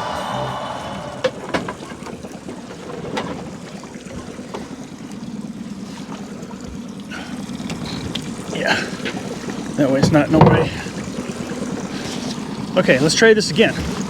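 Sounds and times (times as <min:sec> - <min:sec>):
boat motor humming: 0:00.0 - 0:14.0
water sloshing: 0:00.0 - 0:14.0
wind: 0:00.0 - 0:14.0.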